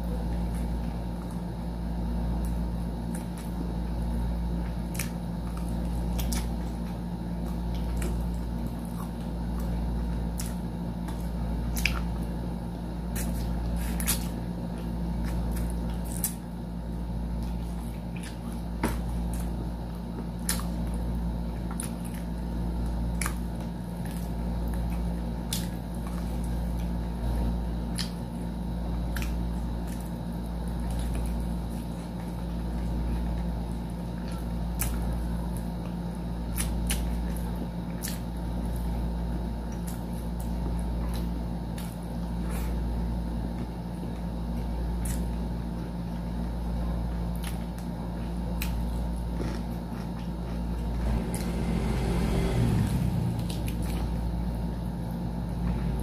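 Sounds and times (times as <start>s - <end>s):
low background hum: 0.0s - 56.0s
chewing and biting: 0.1s - 56.0s.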